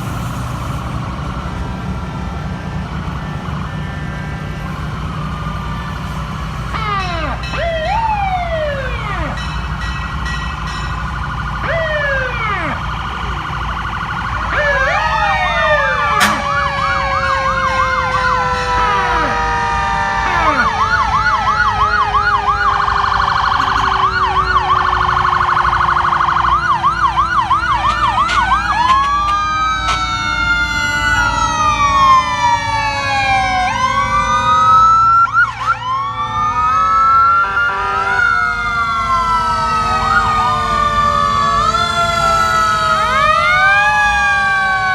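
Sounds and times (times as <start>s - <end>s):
fire truck sirens wailing: 0.0s - 44.9s.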